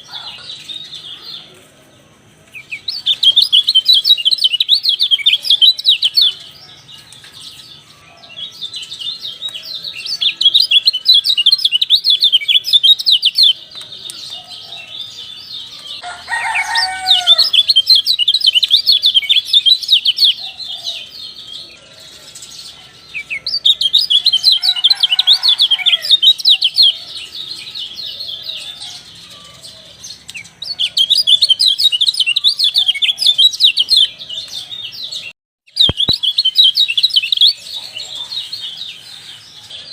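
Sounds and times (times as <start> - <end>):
bird twittering song: 2.5 - 39.9.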